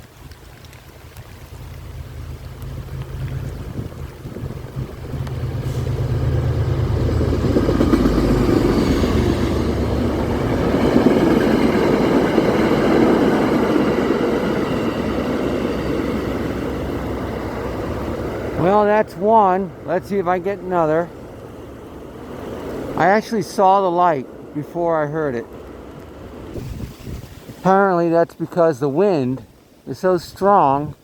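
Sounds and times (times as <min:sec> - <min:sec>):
locomotive engine hum: 0:00.0 - 0:27.6
wind and rain on microphone: 0:00.0 - 0:31.0
train wheels rumbling on rail: 0:01.2 - 0:27.5.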